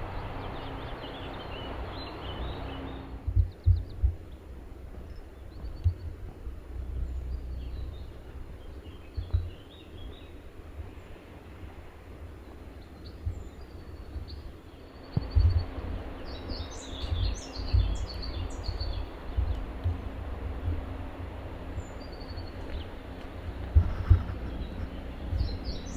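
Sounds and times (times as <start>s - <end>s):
low thuds and rumble: 0.0s - 11.0s, 13.2s - 25.9s
small birds chirping: 0.0s - 25.9s
steady background hiss: 0.0s - 25.9s.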